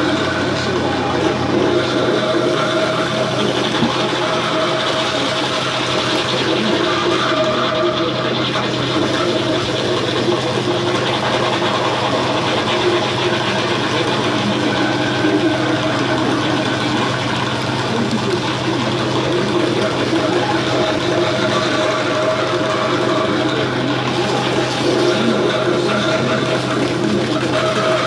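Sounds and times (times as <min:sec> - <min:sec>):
electronic noise drone: 0:00.0 - 0:28.0.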